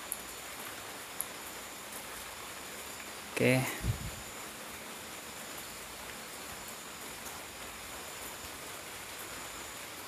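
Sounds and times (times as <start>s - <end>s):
outdoor night ambience hiss: 0.0s - 10.0s.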